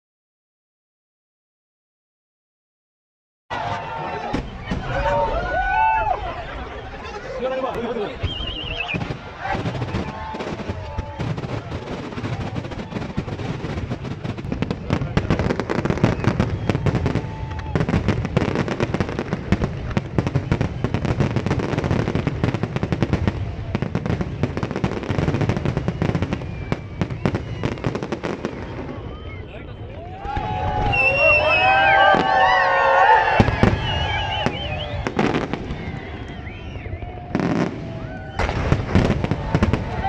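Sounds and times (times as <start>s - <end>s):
fireworks bangs and crackles: 3.6s - 40.0s.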